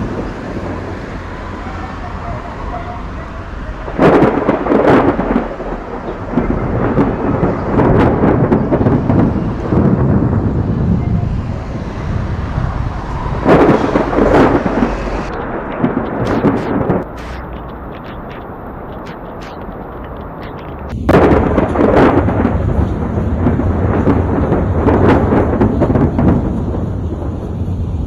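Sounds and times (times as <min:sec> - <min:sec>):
rolling thunder rumble: 0:00.0 - 0:28.0
thunder cracks: 0:00.0 - 0:28.0.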